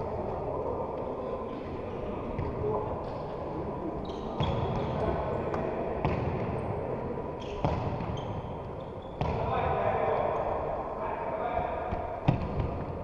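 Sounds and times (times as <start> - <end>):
background murmur: 0.0 - 13.0.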